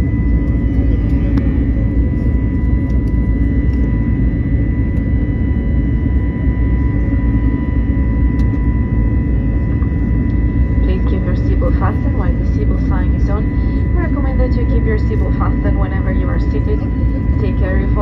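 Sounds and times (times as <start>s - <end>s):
jet engines roaring in cabin: 0.0s - 18.0s
thin steady whine: 0.0s - 18.0s.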